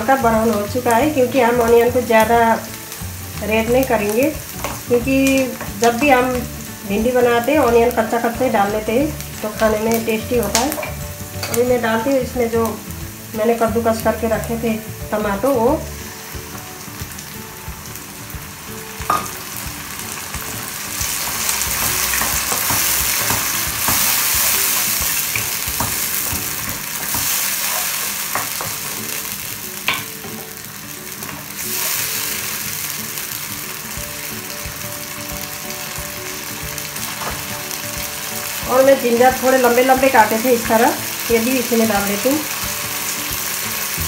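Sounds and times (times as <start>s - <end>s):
vegetables sizzling in hot oil: 0.0s - 44.0s.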